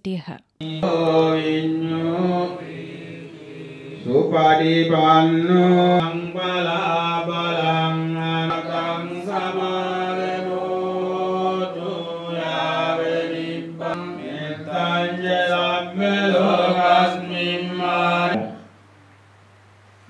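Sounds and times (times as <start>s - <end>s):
monks chanting through a microphone: 0.6s - 18.7s.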